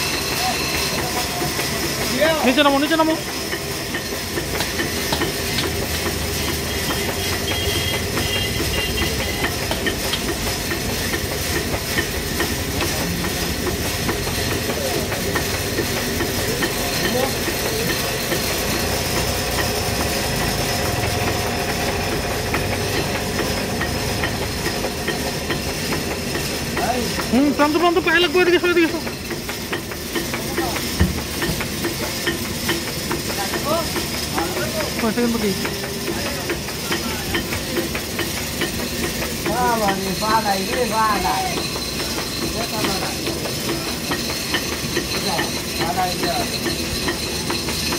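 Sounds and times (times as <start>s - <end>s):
faint voices of workers: 0.0s - 25.6s, 26.3s - 47.9s
sawmill machinery rattling: 0.0s - 47.9s.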